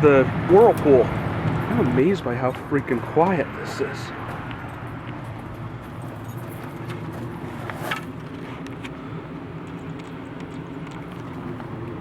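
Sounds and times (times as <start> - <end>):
air conditioning units humming: 0.0 - 12.0.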